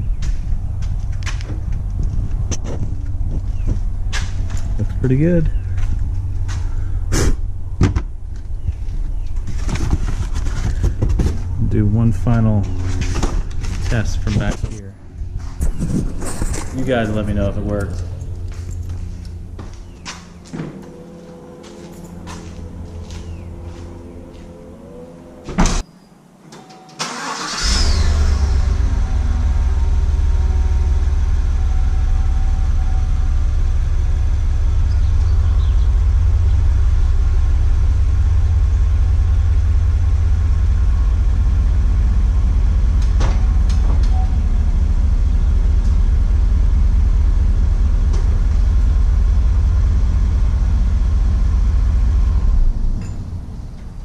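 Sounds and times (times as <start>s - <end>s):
car engine starting and idling: 0.0s - 25.8s, 26.9s - 54.0s.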